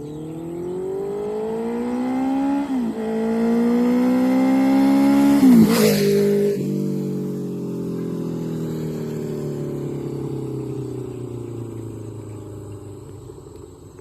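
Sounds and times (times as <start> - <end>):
motorcycle engine winding down: 0.0 - 14.0.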